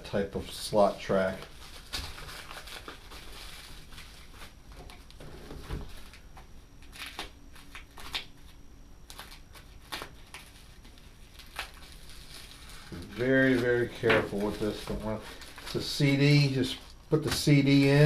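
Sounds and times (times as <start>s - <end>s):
paper and plastic rustling: 1.0s - 18.0s.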